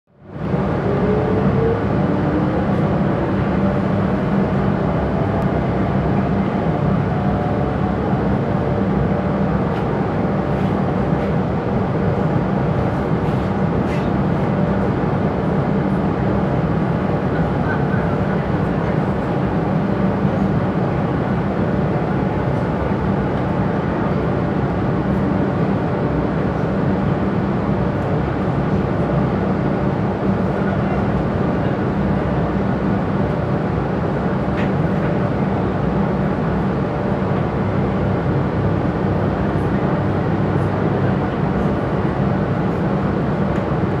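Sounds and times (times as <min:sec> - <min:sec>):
train wheels rumbling on rails: 0:00.2 - 0:44.0.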